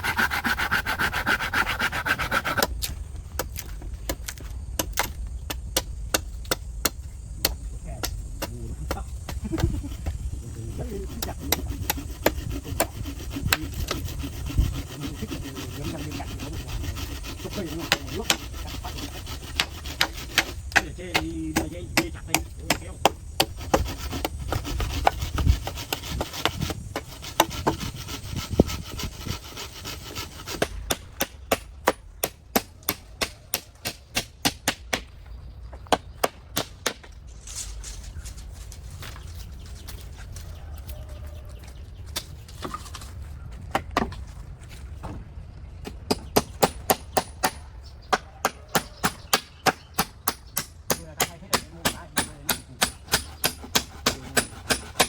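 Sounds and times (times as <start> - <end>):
hammer blows on bamboo: 0.0 - 35.2, 45.8 - 55.0.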